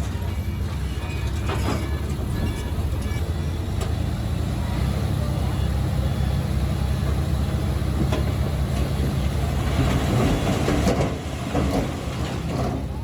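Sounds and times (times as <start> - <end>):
bulldozer diesel engine running: 0.0 - 13.0
steel tracks clanking and grinding: 0.0 - 13.0.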